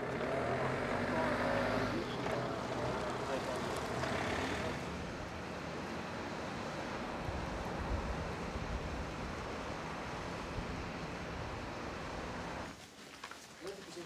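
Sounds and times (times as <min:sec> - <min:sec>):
constant hiss: 0:00.0 - 0:14.0.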